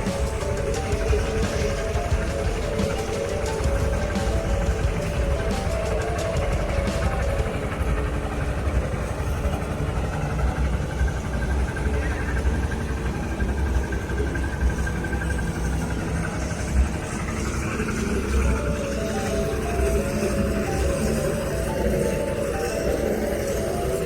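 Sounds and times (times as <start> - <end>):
diesel engine rumbling: 0.0 - 24.0
thin whine: 0.0 - 24.0.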